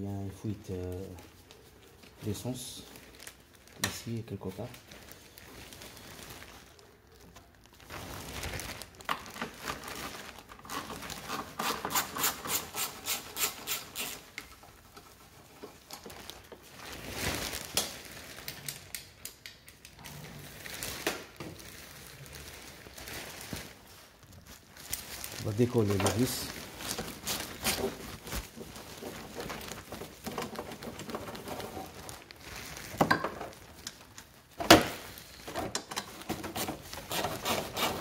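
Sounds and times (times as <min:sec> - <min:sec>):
rustling and rubbing: 0:00.4 - 0:18.5, 0:20.0 - 0:38.0.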